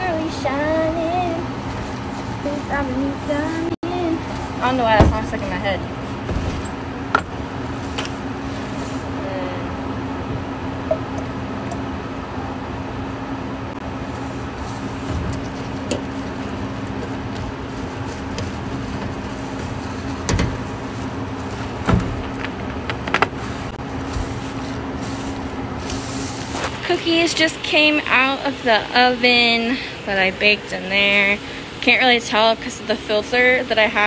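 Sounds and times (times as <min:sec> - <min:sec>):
kitchen equipment electrical hum: 0:00.0 - 0:34.0.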